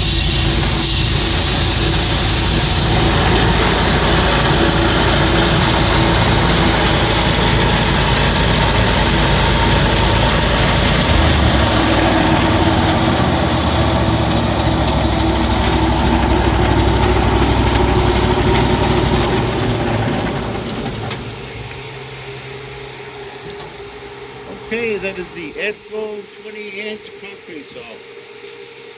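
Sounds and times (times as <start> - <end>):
concrete saw engine running: 0.0 - 28.9.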